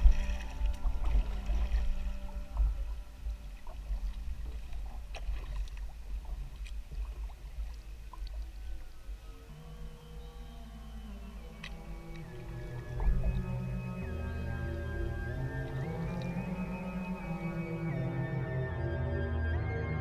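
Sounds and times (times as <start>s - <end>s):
paddle splashes and drips: 0.0s - 18.1s
water rumbling against hull: 0.0s - 18.8s.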